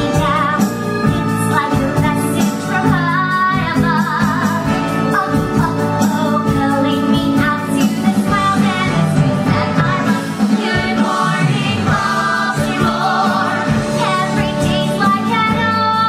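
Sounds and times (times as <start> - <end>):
band accompaniment: 0.0 - 16.0.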